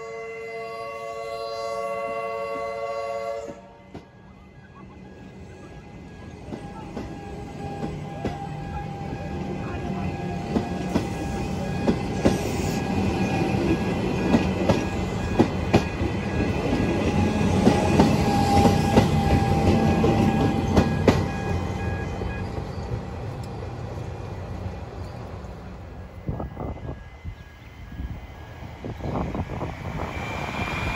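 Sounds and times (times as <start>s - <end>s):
train passing: 0.0s - 30.9s.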